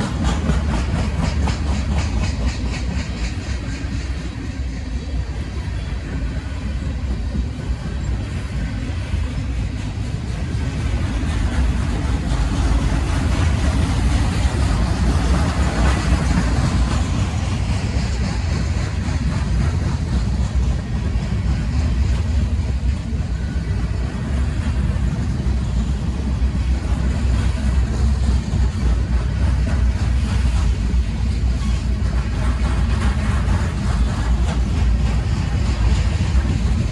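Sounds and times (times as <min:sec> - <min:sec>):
steel wheels rumbling on rails: 0:00.0 - 0:36.9
train cars clattering: 0:00.0 - 0:36.9.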